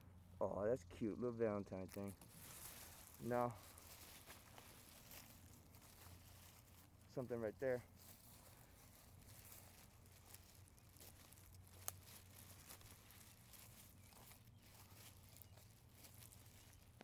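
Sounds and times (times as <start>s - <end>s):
footsteps in dry leaves: 1.7s - 17.0s
faint rustling: 1.9s - 17.0s.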